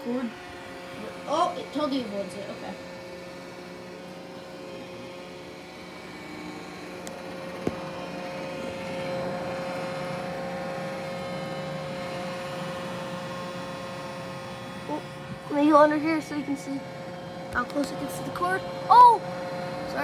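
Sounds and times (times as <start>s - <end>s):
robot vacuum running: 0.0s - 20.0s.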